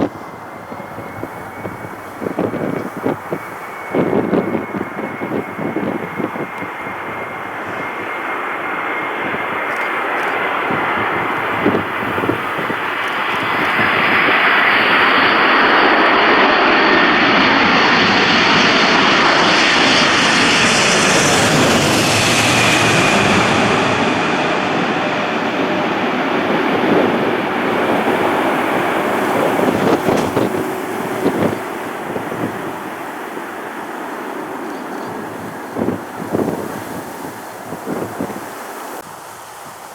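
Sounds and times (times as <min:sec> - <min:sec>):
jet airliner passing overhead: 0:00.0 - 0:39.9.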